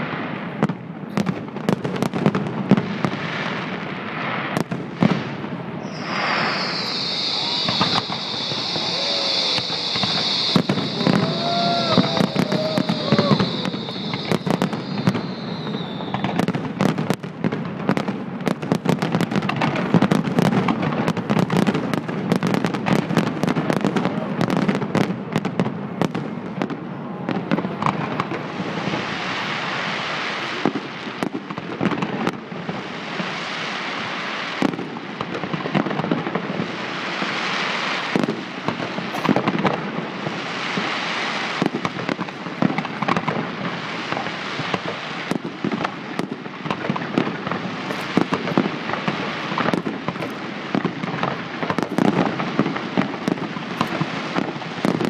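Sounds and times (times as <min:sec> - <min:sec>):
firework bangs: 0:00.0 - 0:55.0
fireworks crackling: 0:00.0 - 0:55.0.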